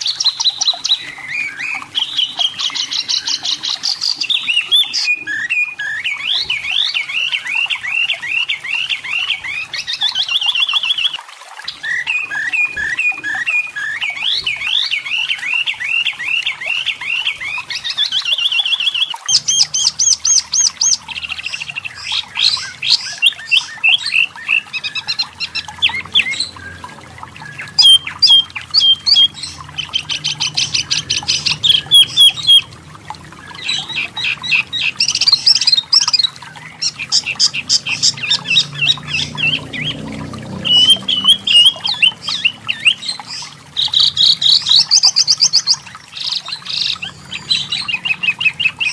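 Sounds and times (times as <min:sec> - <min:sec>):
bird chirping and trilling: 0:00.0 - 0:48.9.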